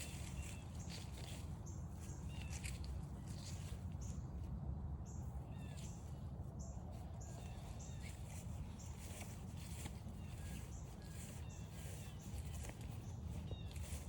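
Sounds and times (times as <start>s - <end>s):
small birds chirping: 0.0s - 4.4s, 5.1s - 14.0s.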